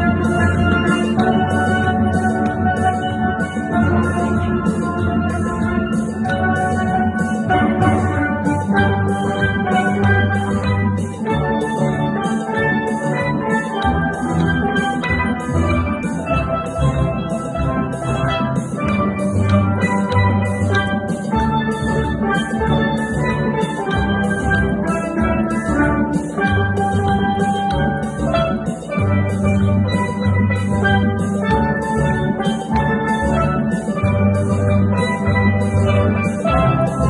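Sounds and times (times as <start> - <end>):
bass pan notes: 0.0 - 37.0
percussion ticking: 0.0 - 37.0
steel pans playing melody: 0.0 - 37.0.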